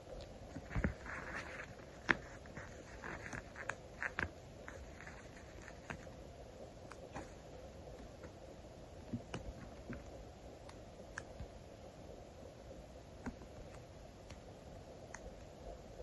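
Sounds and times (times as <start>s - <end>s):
low steady hiss: 0.0s - 16.0s.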